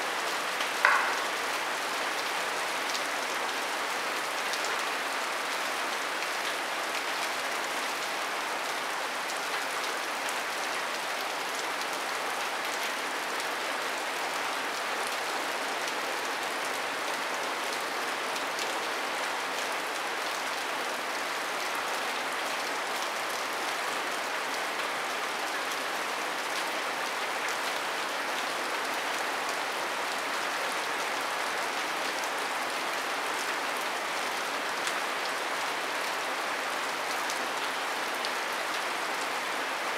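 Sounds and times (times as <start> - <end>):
rain on thatch roof: 0.0 - 39.9.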